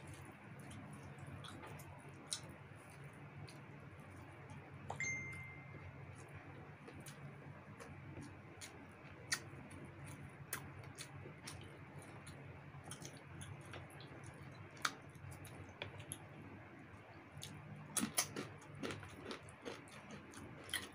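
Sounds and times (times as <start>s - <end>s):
people chewing food: 0.0s - 5.1s, 5.8s - 20.9s
faint low hum: 0.0s - 20.9s.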